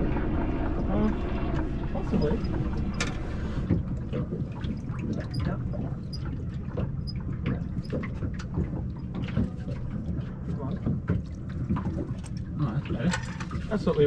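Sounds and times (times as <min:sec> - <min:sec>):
waves lapping against boat hull: 0:00.0 - 0:14.0.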